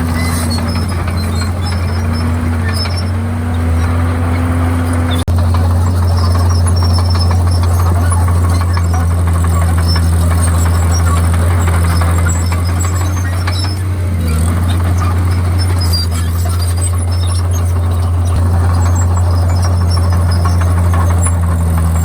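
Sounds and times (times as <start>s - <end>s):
bulldozer diesel engine droning: 0.0s - 22.0s
short high squeaks: 0.0s - 22.0s.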